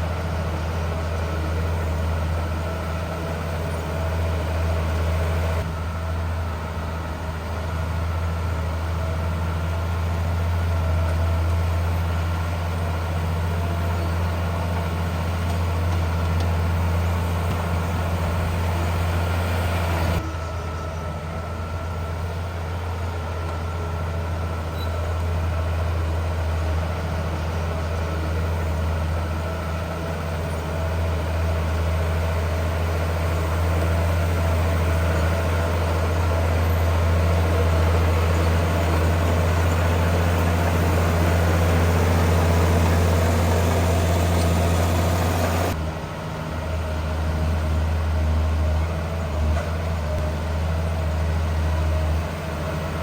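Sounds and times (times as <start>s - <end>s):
heavy diesel engine droning: 0.0s - 53.0s.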